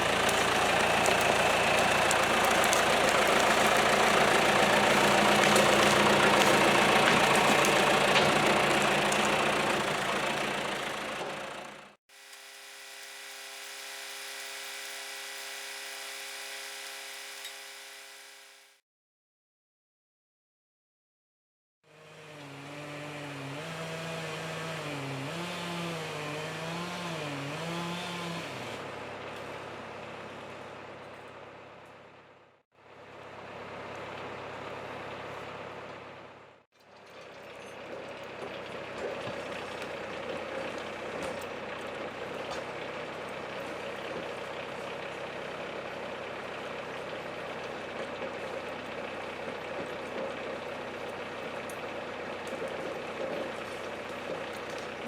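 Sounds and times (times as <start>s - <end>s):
tractor engine running: 0.0s - 17.7s, 22.0s - 55.0s.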